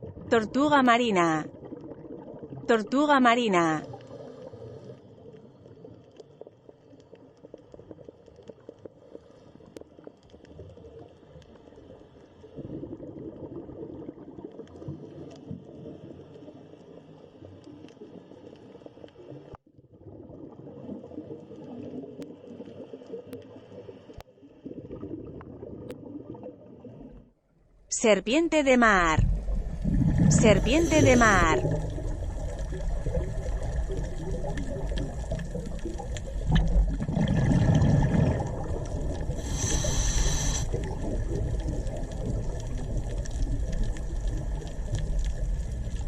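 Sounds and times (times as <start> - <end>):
underwater bubbling and gurgling: 0.0 - 0.7, 1.4 - 2.8, 3.8 - 27.4, 29.2 - 46.0.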